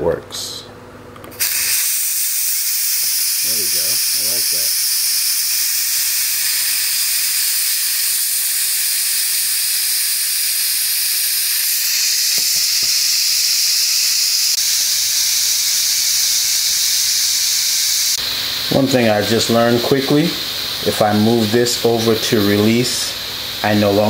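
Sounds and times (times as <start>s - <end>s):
steam hissing from pressure cooker: 1.3s - 24.0s.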